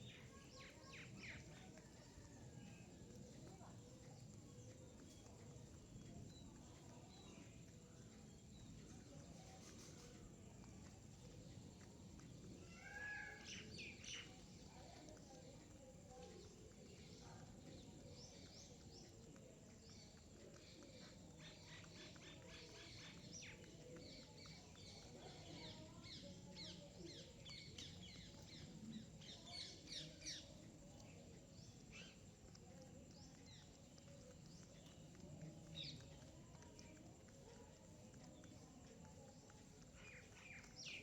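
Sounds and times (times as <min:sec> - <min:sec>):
low background noise: 0:00.0 - 0:41.0
small birds chirping: 0:00.0 - 0:41.0.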